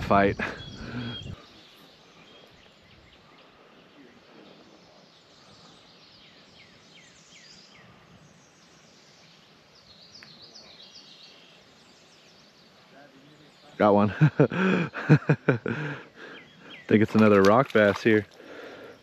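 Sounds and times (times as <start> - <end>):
birds calling: 0.0 - 19.0
faint steady hiss: 0.1 - 19.0.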